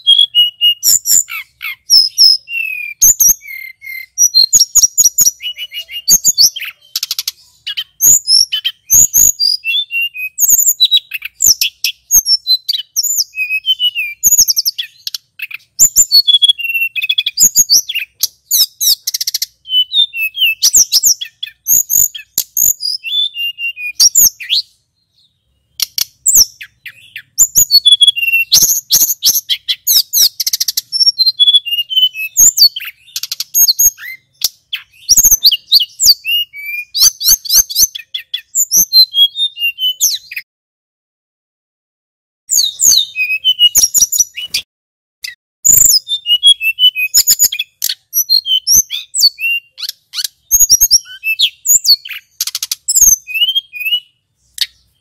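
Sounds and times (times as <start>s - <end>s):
bird warbling song with trills: 0.0s - 40.4s, 42.5s - 55.0s.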